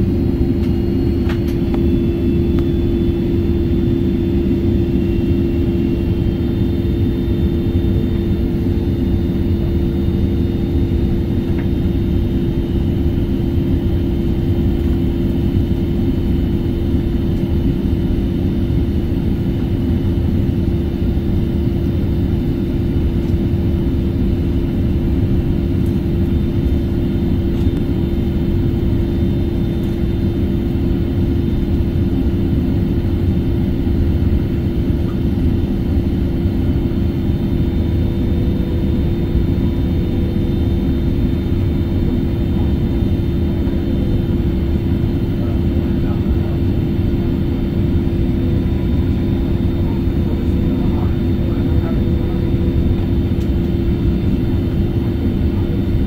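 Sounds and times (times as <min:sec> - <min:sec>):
airliner cabin engine roar: 0:00.0 - 0:56.0.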